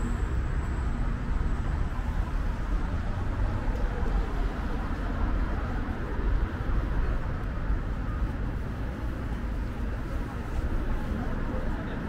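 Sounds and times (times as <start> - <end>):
faint murmur of passers-by: 0.0 - 12.0
low traffic rumble: 0.0 - 12.0.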